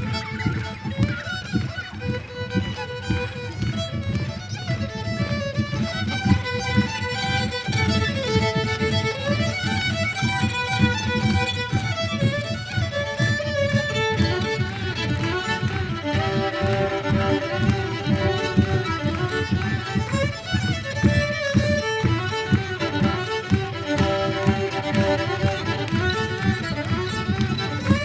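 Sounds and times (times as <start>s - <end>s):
violin duet: 0.0s - 28.0s.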